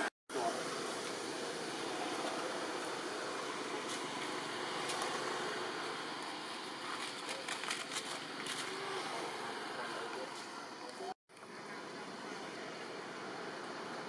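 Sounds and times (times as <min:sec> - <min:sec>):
even forest hiss: 0:00.0 - 0:14.0.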